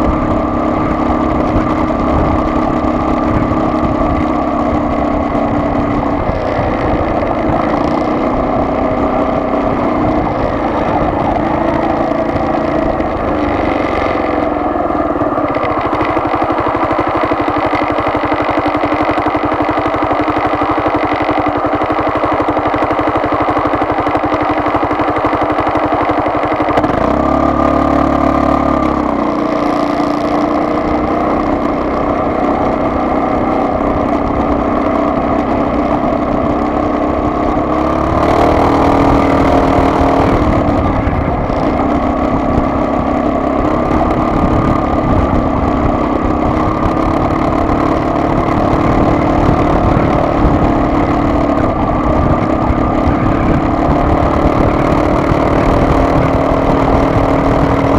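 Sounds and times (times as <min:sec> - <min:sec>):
vehicle engine driving: 0:00.0 - 0:57.9.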